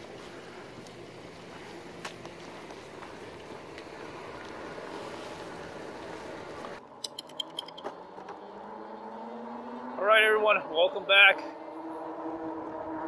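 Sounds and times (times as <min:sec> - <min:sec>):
wind and tyre noise: 0:00.0 - 0:13.0.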